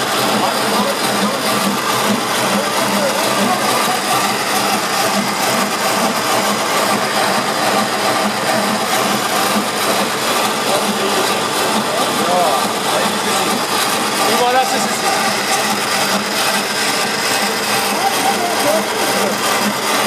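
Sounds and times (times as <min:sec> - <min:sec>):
line boring machine whirring: 0:00.0 - 0:20.0.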